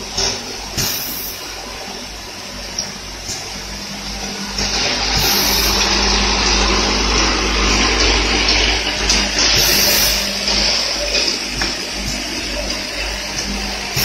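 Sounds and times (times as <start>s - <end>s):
vibratory feeder humming: 0.0s - 14.0s.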